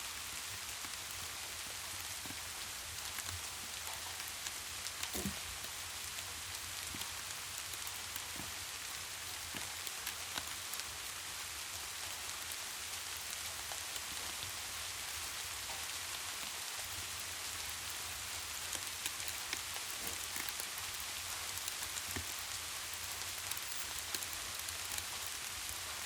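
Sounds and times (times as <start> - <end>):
rain falling on a surface: 0.0 - 26.0.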